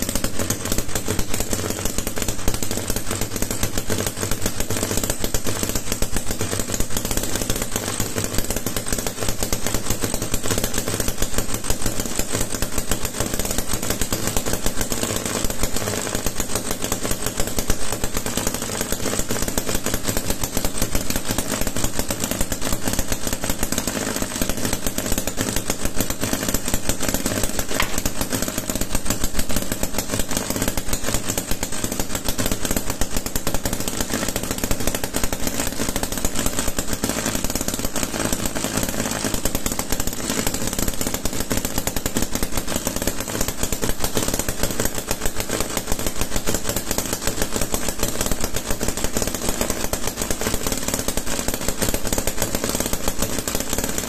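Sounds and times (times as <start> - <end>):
model engine running: 0.0 - 54.0.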